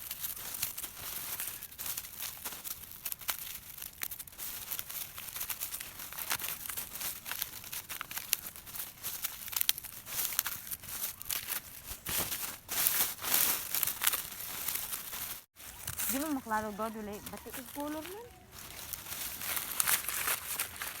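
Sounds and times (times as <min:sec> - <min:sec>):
dry corn husks crackling: 0:00.0 - 0:21.0.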